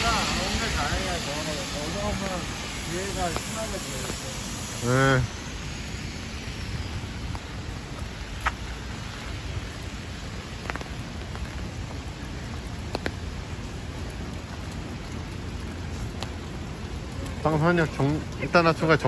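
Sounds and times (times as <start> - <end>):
heavy rain on pavement: 0.0 - 19.0.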